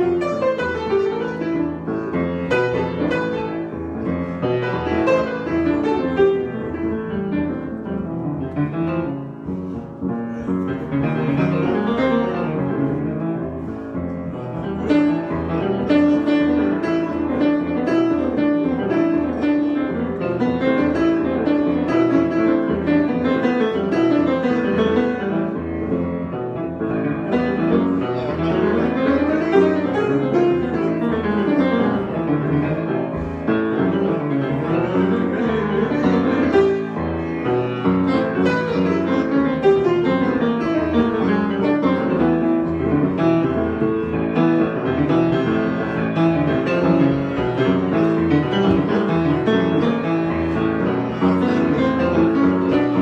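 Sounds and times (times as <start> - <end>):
solo piano improvisation: 0.0 - 53.0.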